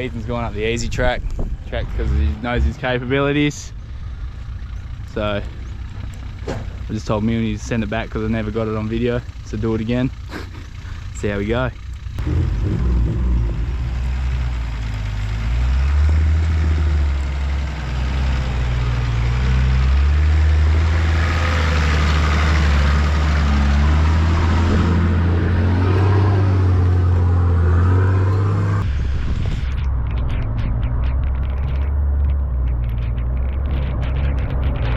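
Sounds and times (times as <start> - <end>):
vehicle engine revving: 0.0 - 34.9.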